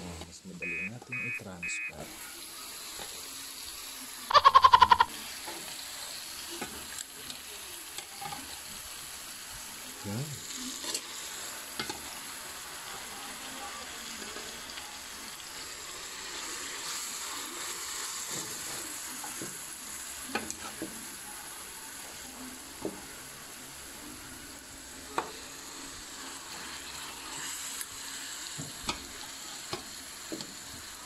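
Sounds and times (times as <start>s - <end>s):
food sizzling in oil: 0.7s - 31.0s.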